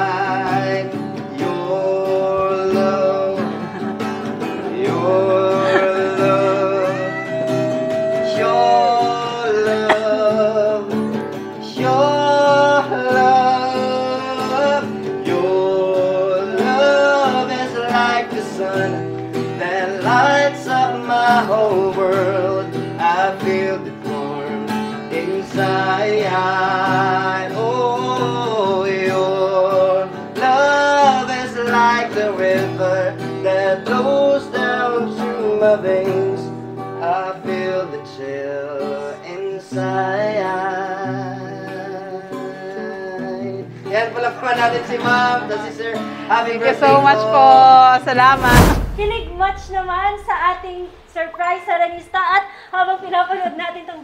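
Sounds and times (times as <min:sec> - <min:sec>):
man singing a slow ballad: 0:00.0 - 0:47.8
acoustic guitar: 0:00.0 - 0:54.0.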